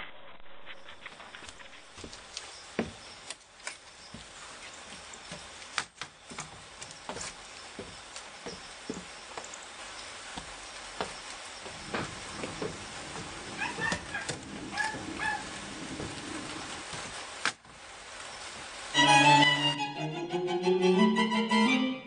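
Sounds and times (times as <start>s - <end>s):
steady low hiss: 0.4s - 20.3s.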